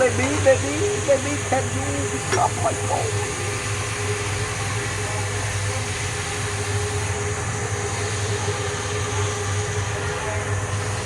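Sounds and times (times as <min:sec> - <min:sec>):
machine humming: 0:00.0 - 0:09.9.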